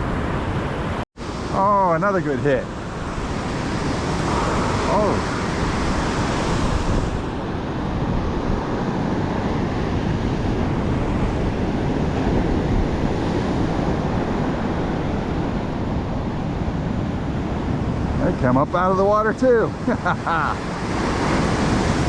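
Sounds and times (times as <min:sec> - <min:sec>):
ocean surf breaking on beach: 0:00.0 - 0:22.0
wind rumbling on microphone: 0:02.2 - 0:22.0.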